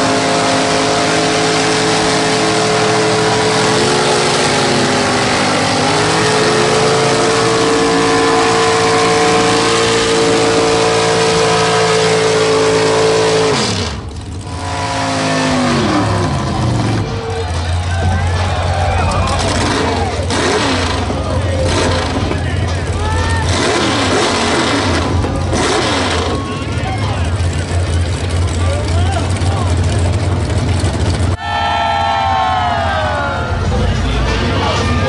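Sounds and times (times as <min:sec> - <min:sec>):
truck engines at high revs: 0:00.0 - 0:35.0.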